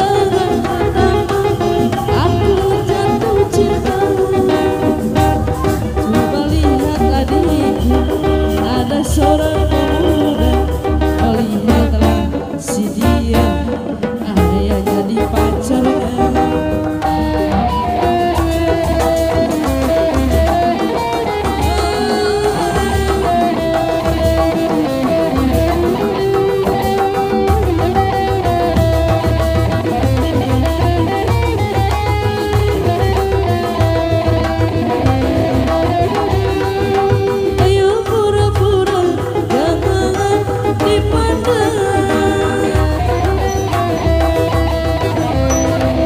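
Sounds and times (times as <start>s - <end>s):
processional music melody: 0.0s - 46.0s.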